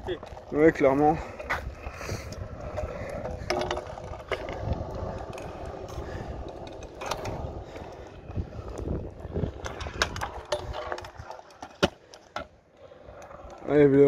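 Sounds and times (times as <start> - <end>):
scooter clicks and rattles: 0.0 - 12.6
scooter wheels rumbling on asphalt: 0.0 - 14.0.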